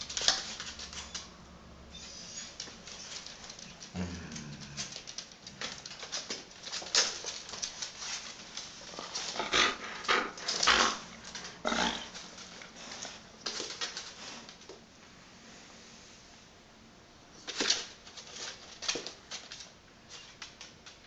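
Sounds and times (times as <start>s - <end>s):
pets scrambling on wooden floor: 0.0s - 1.4s, 2.0s - 14.8s, 17.4s - 21.0s.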